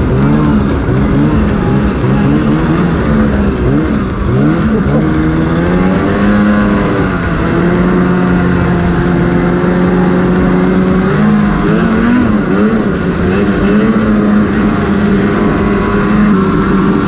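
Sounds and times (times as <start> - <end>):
snowmobile engines running: 0.0 - 17.0.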